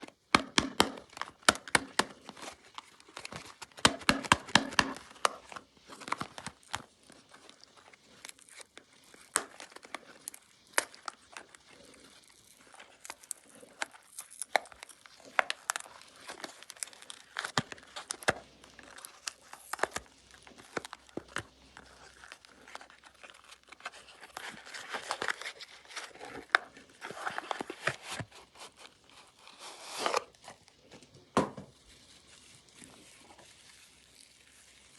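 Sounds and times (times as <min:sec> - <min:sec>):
packaging crinkling and tearing: 0:00.0 - 0:34.9.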